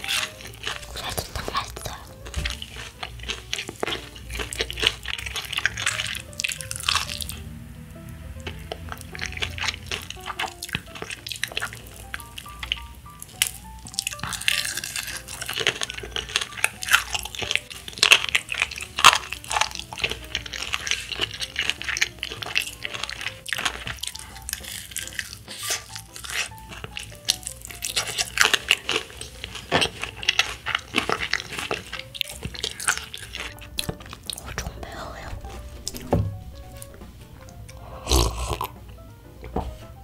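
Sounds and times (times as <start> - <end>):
crunching and chewing fried chicken: 0.0 - 36.9, 37.7 - 39.0
soft background music: 0.0 - 40.0.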